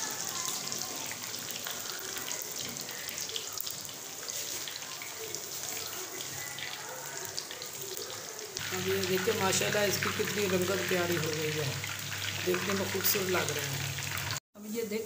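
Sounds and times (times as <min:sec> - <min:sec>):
chicken frying with crackles: 0:00.0 - 0:15.0.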